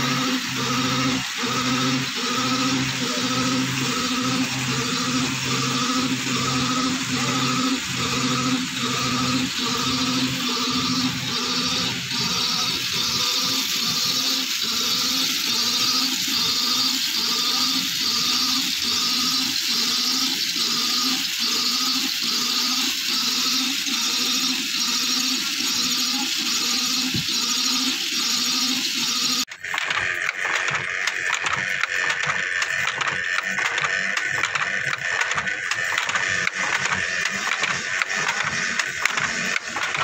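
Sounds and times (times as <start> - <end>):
spinning machine whirring clatter: 0.0 - 40.0.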